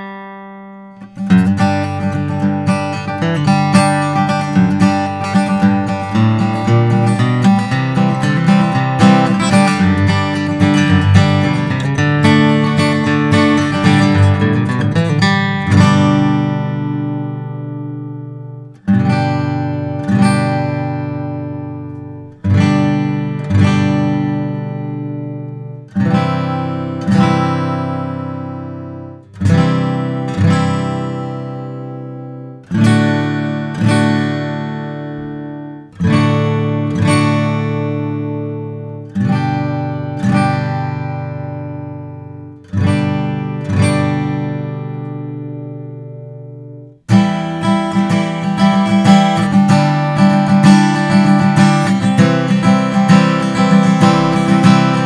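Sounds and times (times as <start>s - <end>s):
acoustic guitar chords ringing: 0.0s - 55.0s
acoustic guitar strumming: 0.0s - 55.0s.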